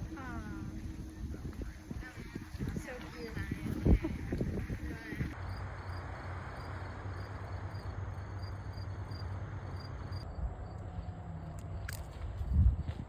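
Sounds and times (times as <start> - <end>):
crickets chirping: 0.0 - 13.0
rushing outdoor background: 0.0 - 13.0.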